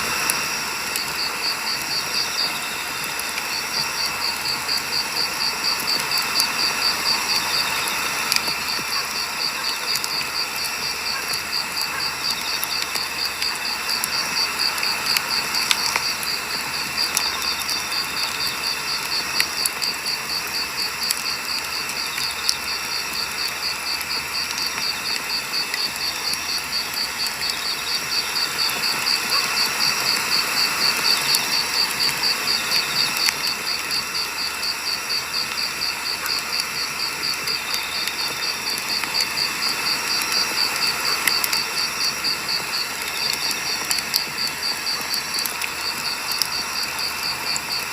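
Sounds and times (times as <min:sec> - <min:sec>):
campfire crackling: 0:00.0 - 0:47.9
insect chirping: 0:00.0 - 0:47.9.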